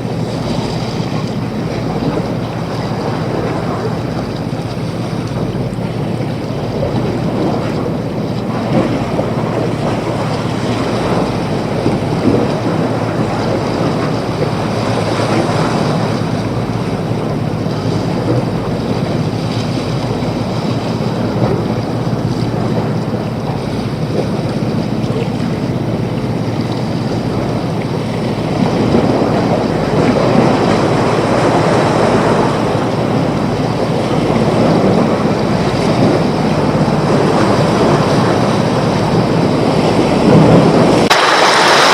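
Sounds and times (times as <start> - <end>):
waves breaking: 0.0 - 41.9
wind buffeting microphone: 0.0 - 41.9.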